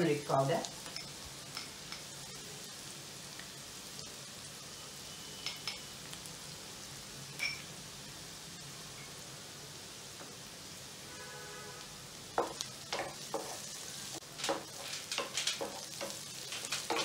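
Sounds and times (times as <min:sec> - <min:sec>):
onions sizzling in a pan: 0:00.0 - 0:17.0.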